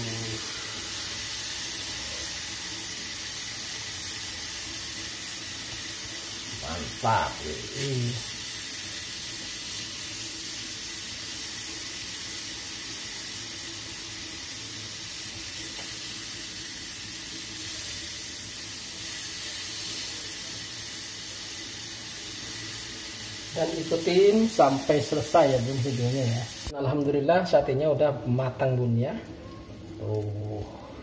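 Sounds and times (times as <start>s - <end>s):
meat skewers sizzling in grill pan: 0.0s - 31.0s.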